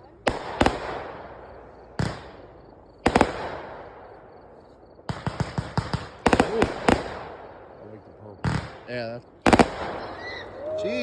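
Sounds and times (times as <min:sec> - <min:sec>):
fireworks bangs with echo: 0:00.0 - 0:10.8
crackling firework reports: 0:00.2 - 0:04.2, 0:05.0 - 0:11.0.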